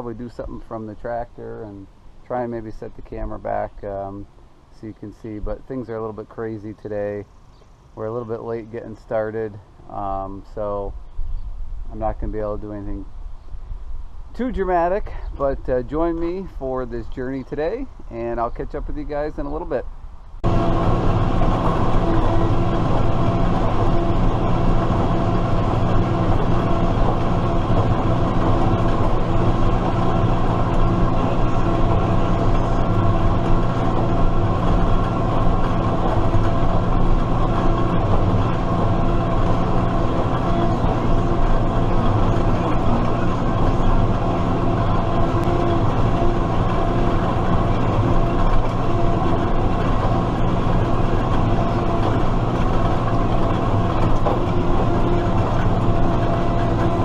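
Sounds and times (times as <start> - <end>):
tractor diesel engine running: 0.0 - 7.4, 8.0 - 10.9, 14.0 - 57.0.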